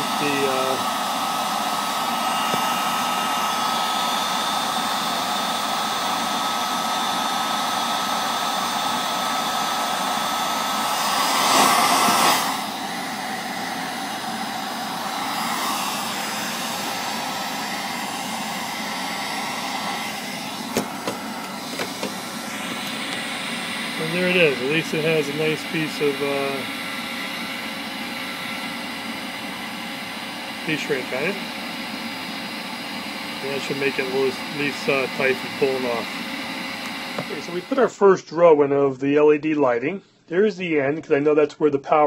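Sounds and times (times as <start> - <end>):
heat gun blowing air: 0.0 - 37.9.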